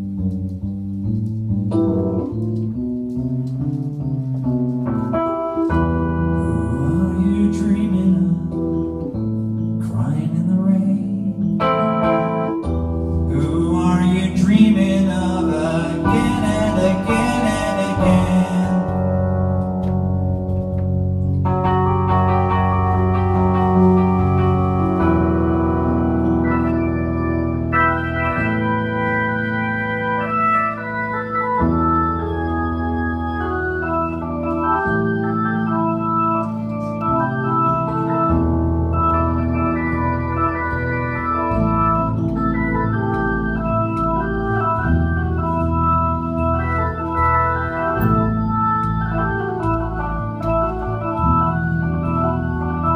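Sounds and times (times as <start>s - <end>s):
held bass notes: 0.0s - 52.9s
organ-like keyboard chords: 0.0s - 52.9s.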